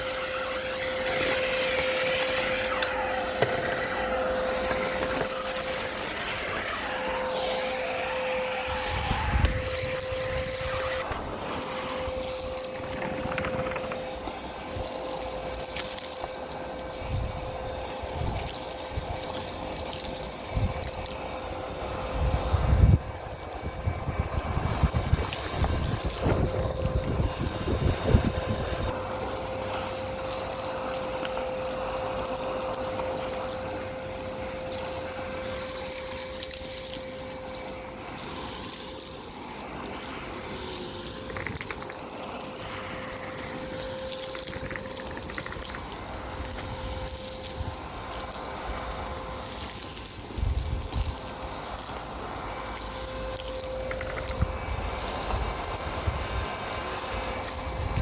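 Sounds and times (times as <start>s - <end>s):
grit crackling in vacuum: 0.0s - 58.0s
vacuum cleaner running: 0.0s - 58.0s.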